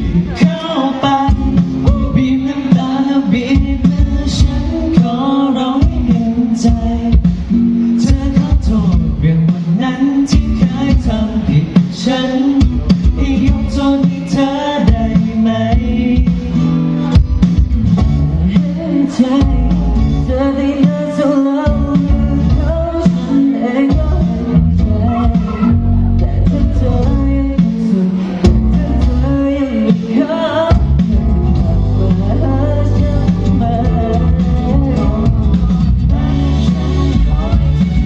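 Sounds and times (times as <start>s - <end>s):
pop song with singing: 0.0s - 38.0s.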